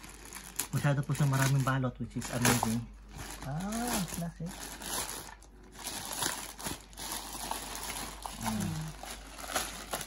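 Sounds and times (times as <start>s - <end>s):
plastic mailing bag crinkling: 0.0s - 10.0s.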